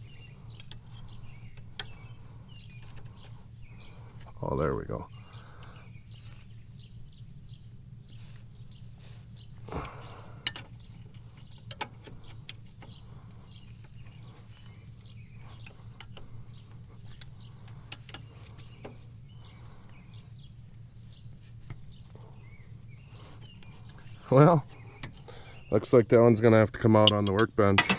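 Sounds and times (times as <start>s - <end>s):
small birds chirping: 0.0s - 27.9s
steady low hum: 0.0s - 27.9s.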